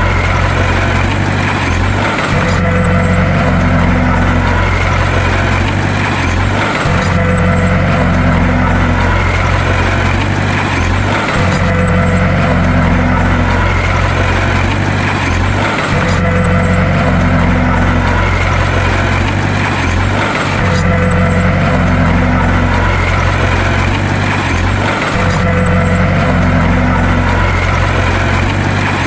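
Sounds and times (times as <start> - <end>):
bulldozer diesel engine drone: 0.0 - 29.0.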